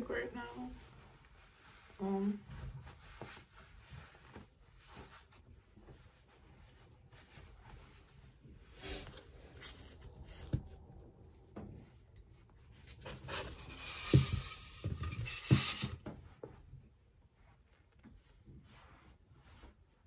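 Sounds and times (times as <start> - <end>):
clothing fabric rustling: 0.0 - 20.0.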